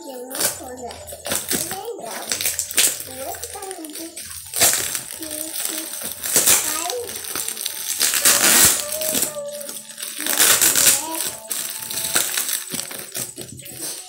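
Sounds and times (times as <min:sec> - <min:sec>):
plastic film crinkling and tearing: 0:00.0 - 0:14.0.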